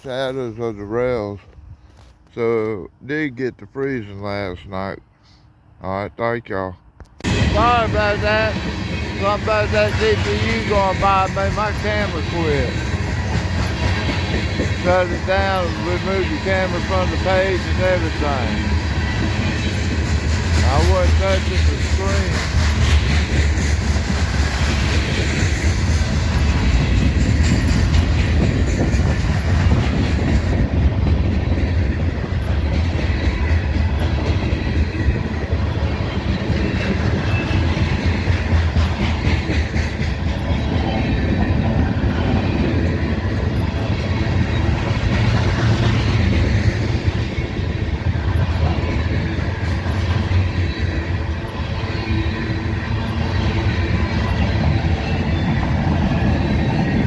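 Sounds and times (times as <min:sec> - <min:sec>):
train wheels rumbling on rails: 0:07.2 - 0:57.0.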